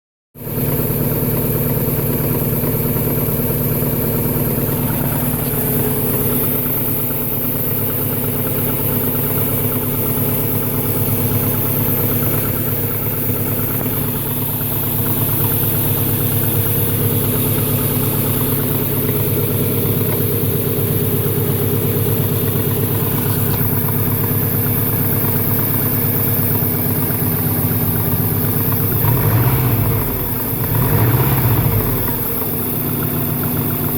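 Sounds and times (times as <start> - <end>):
car engine idling: 0.4 - 33.9
fast repetitive engine knock: 0.4 - 33.9.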